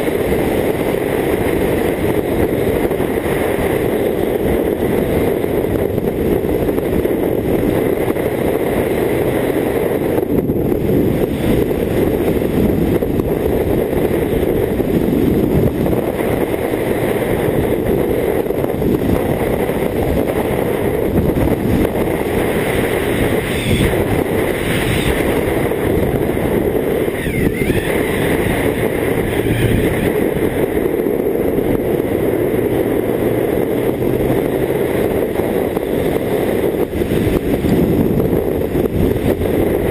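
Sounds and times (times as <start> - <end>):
motorcycle engine running steadily: 0.0 - 39.9
road noise: 0.0 - 39.9
wind rush: 0.0 - 39.9.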